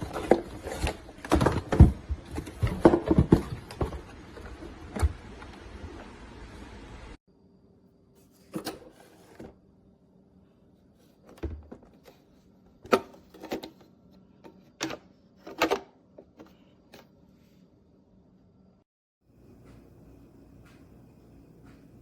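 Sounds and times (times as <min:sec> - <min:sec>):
faint steady hum: 0:02.3 - 0:22.0.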